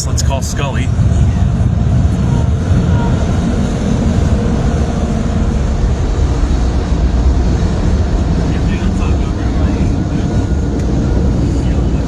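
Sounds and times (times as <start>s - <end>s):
car wash machinery rumble: 0.0s - 12.0s.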